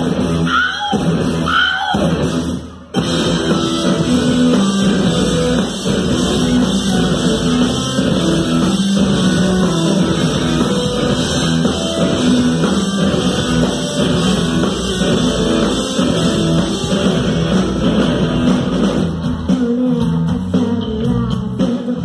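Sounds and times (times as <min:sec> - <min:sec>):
bass: 0:00.0 - 0:22.0
drum kit: 0:00.0 - 0:22.0
electric guitar: 0:00.0 - 0:22.0
synthesizer: 0:00.0 - 0:22.0.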